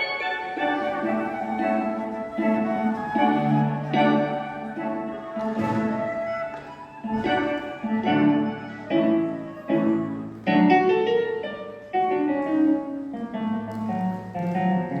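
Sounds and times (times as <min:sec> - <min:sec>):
live instrumental music: 0:00.0 - 0:15.0.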